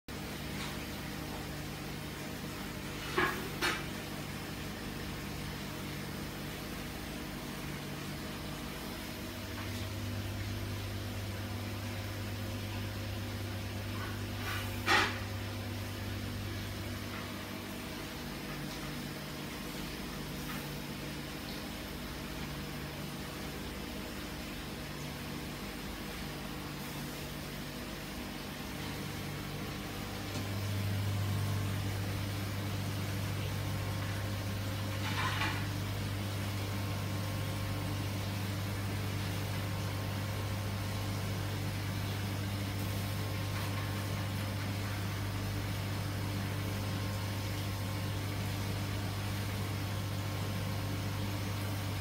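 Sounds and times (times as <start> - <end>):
low machine fan hum: 0.1 - 52.0.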